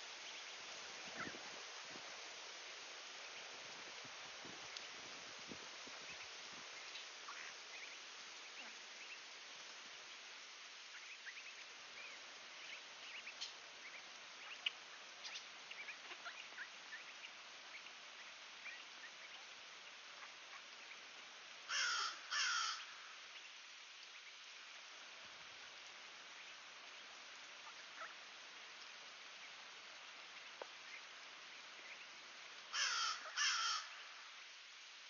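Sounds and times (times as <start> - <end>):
outdoor background noise: 0.0 - 35.0.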